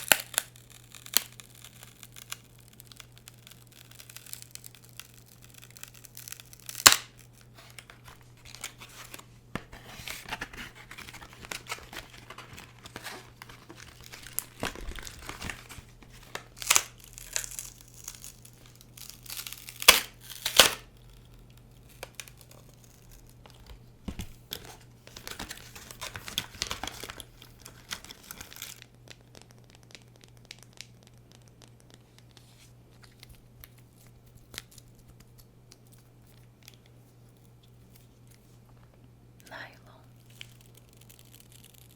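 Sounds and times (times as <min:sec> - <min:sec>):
packaging crinkling and tearing: 0:00.0 - 0:38.5, 0:40.2 - 0:41.9.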